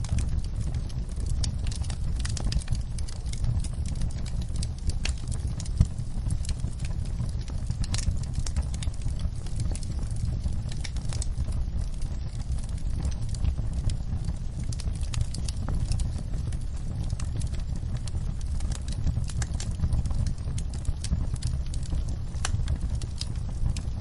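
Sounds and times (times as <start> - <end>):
fire crackling and popping: 0.0 - 24.0
low fire rumble: 0.0 - 24.0.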